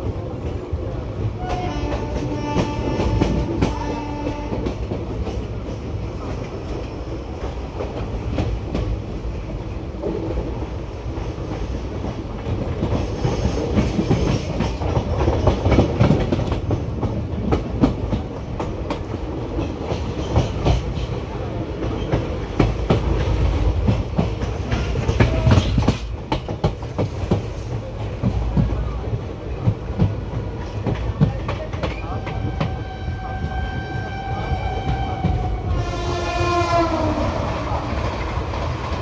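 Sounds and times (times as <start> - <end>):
train rumbling: 0.0 - 39.0.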